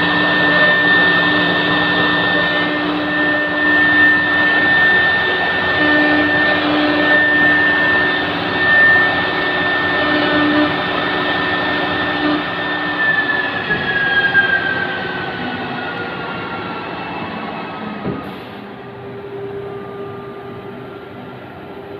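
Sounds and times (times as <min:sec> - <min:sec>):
router spindles whining: 0:00.0 - 0:17.6.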